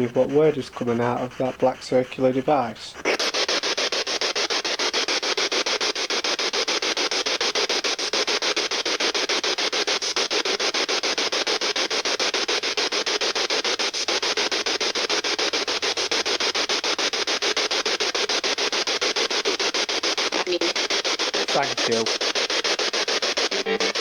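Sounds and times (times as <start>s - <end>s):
pulsing radio static: 0.0s - 24.0s.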